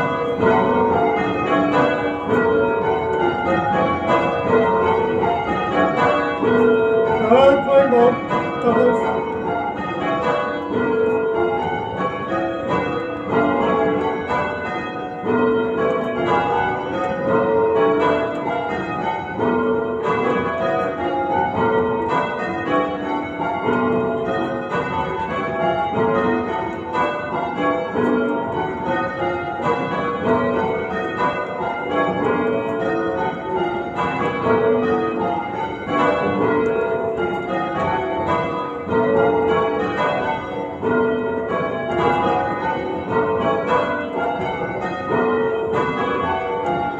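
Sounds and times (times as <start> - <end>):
church bells change ringing: 0.0 - 46.9.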